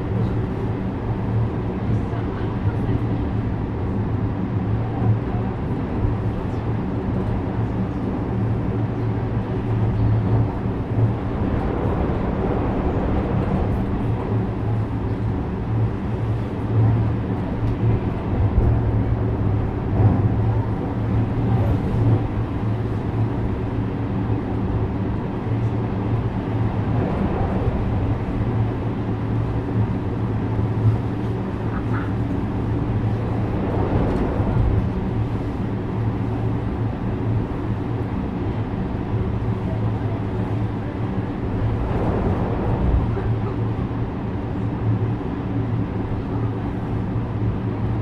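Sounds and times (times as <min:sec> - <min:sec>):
wheel-on-rail rumble: 0:00.0 - 0:48.0.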